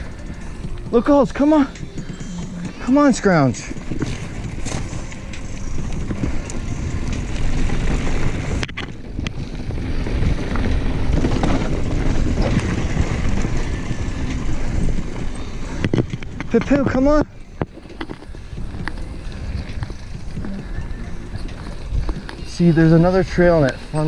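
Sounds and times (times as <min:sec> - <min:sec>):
bike tyre and frame rattle: 0:00.0 - 0:24.0
wind buffeting microphone: 0:00.0 - 0:24.0.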